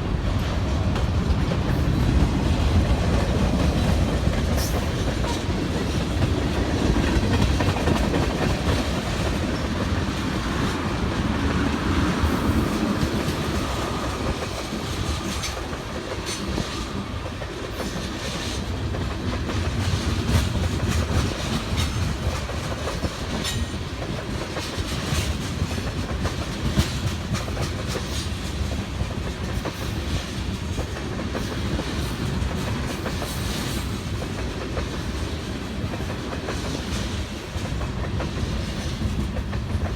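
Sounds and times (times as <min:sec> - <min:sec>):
freight train rumbling past: 0:00.0 - 0:39.9
wheels clacking over rail joints: 0:00.1 - 0:39.9.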